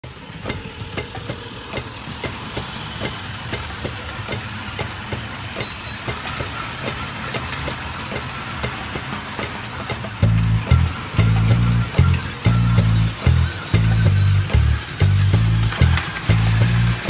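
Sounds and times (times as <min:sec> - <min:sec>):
toy train clicking over track joints: 0:00.0 - 0:17.0.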